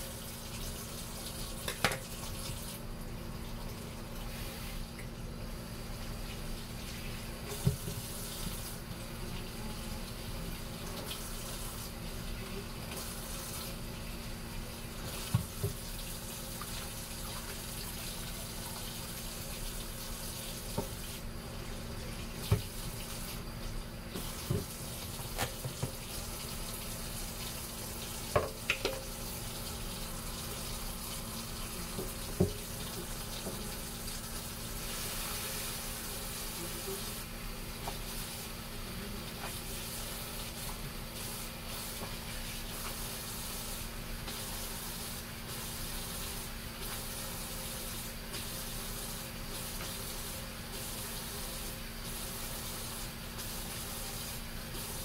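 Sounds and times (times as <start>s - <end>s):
faucet running into sink: 0.0s - 2.8s, 5.8s - 38.5s, 39.3s - 55.0s.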